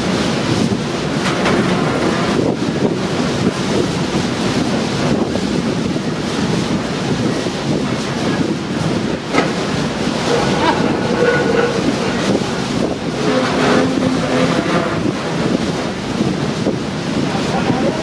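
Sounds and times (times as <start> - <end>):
gale wind buffeting microphone: 0.0 - 18.0.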